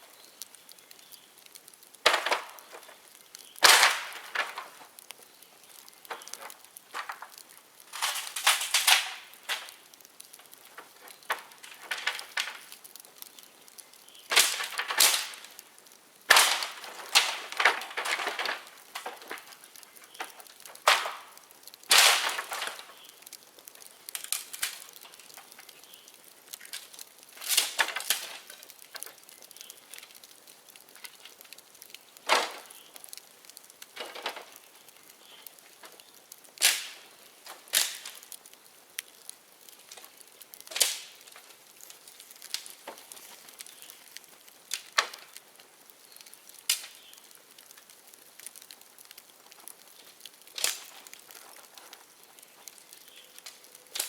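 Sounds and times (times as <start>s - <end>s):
bamboo popping and cracking: 0.0s - 54.0s
bonfire crackling and hissing: 0.0s - 54.0s.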